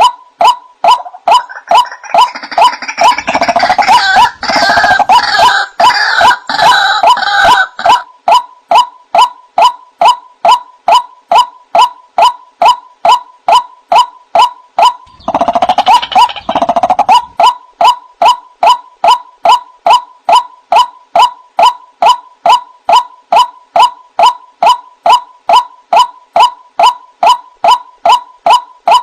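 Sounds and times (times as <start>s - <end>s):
bird harsh repeated calls: 0.0s - 29.0s
bird chattering run: 0.4s - 29.0s.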